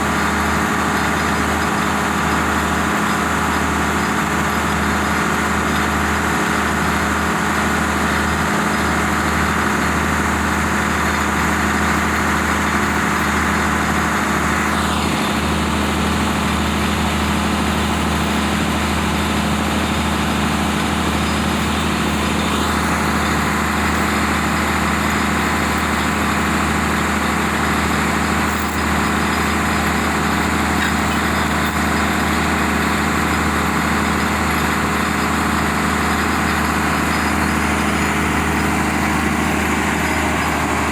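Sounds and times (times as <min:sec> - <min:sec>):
diesel excavator engine idling: 0:00.0 - 0:40.9.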